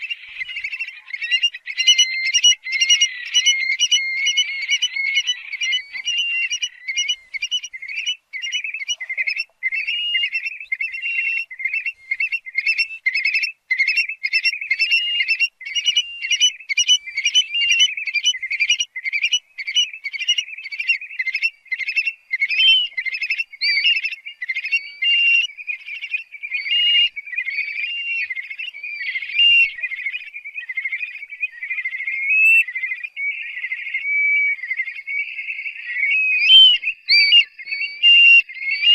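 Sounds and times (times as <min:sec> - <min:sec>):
bird shrill piping whistles: 0:00.0 - 0:38.9.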